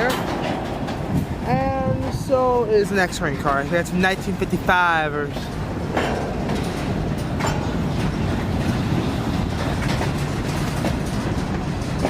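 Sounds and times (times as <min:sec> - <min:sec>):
freight cars rolling on rails: 0:00.0 - 0:12.0
wheels clicking over rail joints: 0:00.0 - 0:12.0.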